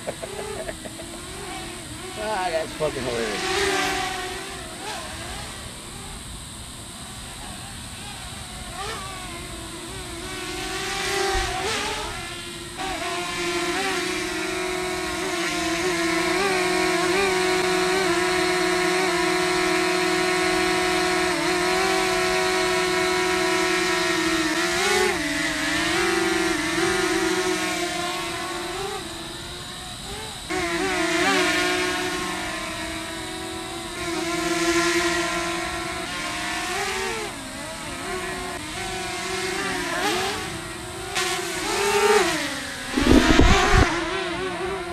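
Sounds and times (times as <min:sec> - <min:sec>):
drone propellers buzzing whine: 0:00.0 - 0:44.9.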